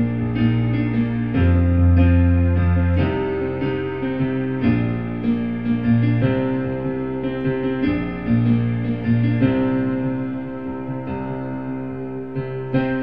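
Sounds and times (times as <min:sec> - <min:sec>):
keyboard piano bass line and chords: 0:00.0 - 0:13.0.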